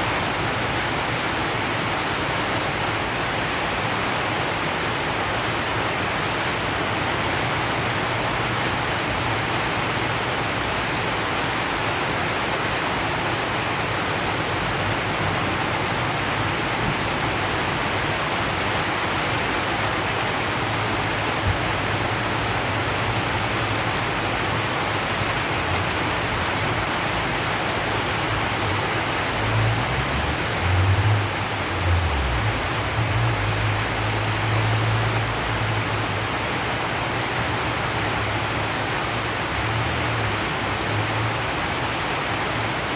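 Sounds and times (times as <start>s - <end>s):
rain on a metal roof: 0.0s - 42.9s.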